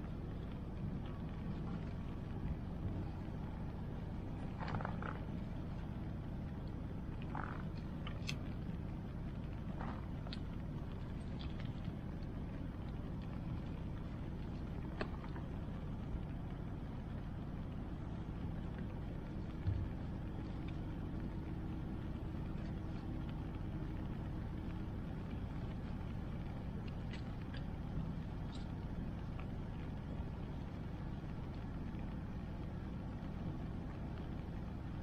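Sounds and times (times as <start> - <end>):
bonfire crackling: 0.0 - 35.0
rain: 0.0 - 35.0.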